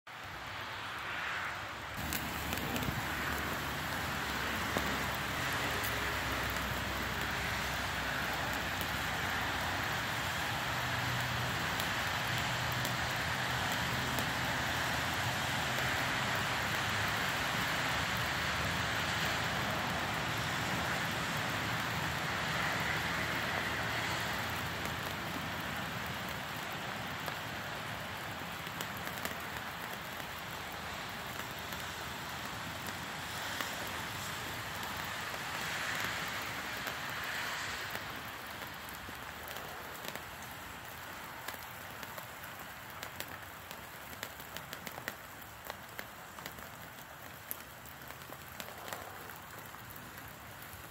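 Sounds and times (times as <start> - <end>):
sparklers hissing and crackling: 2.0 - 50.9.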